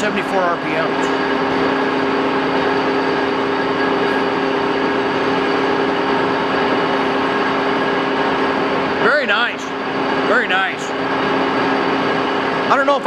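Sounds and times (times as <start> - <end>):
gear whine: 0.0 - 13.0
lathe machine drone: 0.0 - 13.0.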